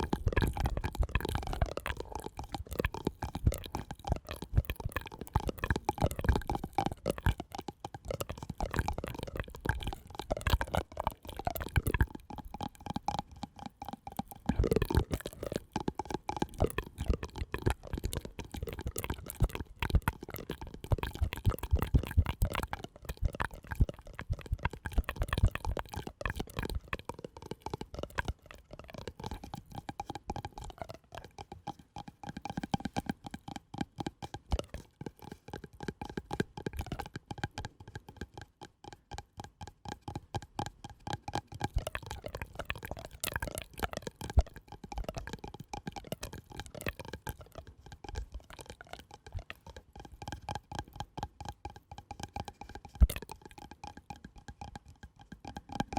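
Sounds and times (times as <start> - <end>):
soft clicks and pops: 0.0 - 55.9.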